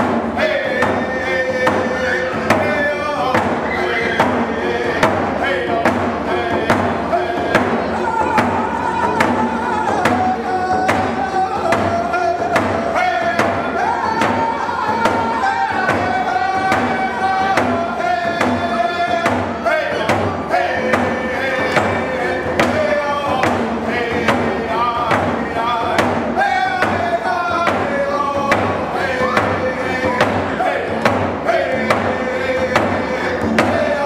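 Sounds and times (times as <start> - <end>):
frame drum beats: 0.0 - 34.0
men singing long notes: 0.1 - 34.0.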